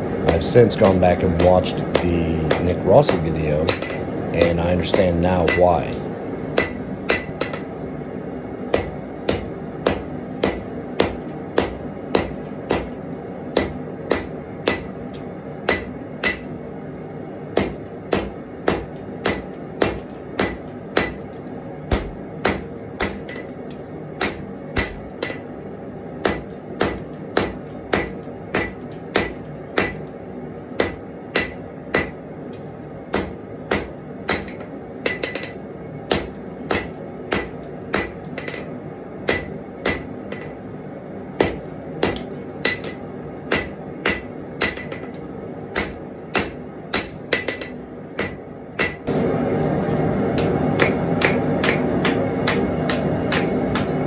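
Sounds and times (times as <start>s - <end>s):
steady background hum: 0.0s - 54.0s
hammer striking steel on anvil: 0.3s - 7.7s, 8.7s - 13.0s, 13.6s - 14.9s, 15.7s - 16.5s, 17.6s - 23.6s, 24.2s - 25.5s, 26.2s - 30.1s, 30.8s - 32.2s, 33.1s - 38.7s, 39.3s - 40.6s, 41.4s - 49.2s, 50.4s - 54.0s.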